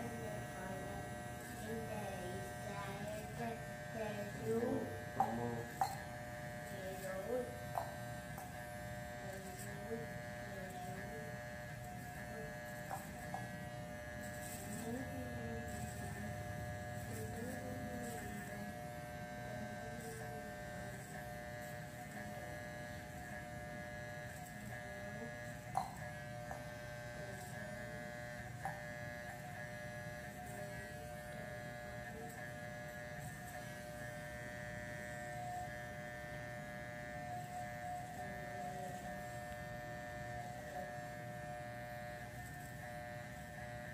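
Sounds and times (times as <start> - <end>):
electric hair clippers buzzing: 0.0 - 43.9.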